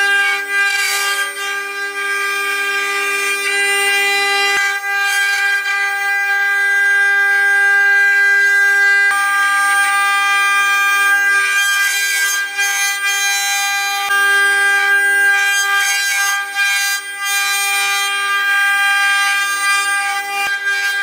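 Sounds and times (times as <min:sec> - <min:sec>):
router spindles whining: 0:00.0 - 0:21.0.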